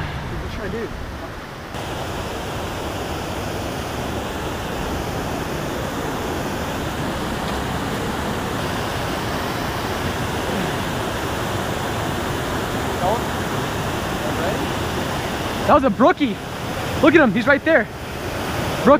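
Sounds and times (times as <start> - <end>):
waterfall pouring over rock: 1.7 - 18.9.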